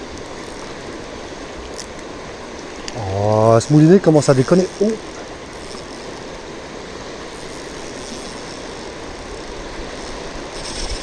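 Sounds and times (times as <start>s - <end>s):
river current rushing over shallows: 0.0s - 11.0s.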